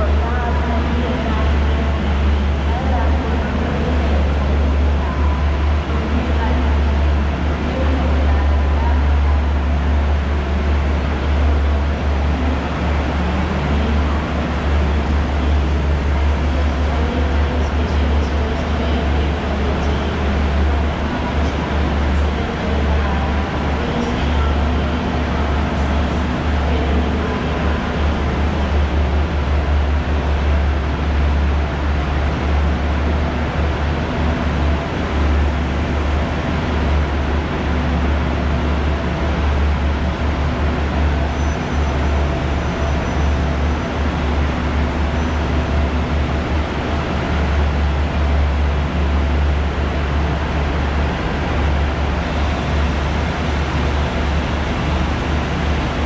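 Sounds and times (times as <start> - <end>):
faint hum: 0.0 - 56.0
trains rumbling drone: 0.0 - 56.0.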